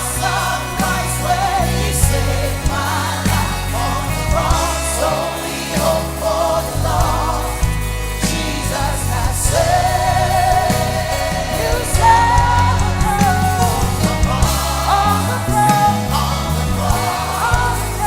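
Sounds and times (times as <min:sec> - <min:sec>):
heavy bass: 0:00.0 - 0:18.0
live worship band music: 0:00.0 - 0:18.0.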